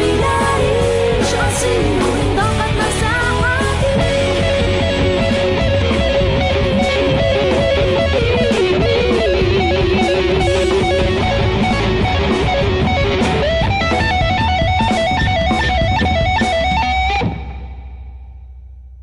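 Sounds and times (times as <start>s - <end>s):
electric guitar instrumental with drums: 0.0s - 18.2s.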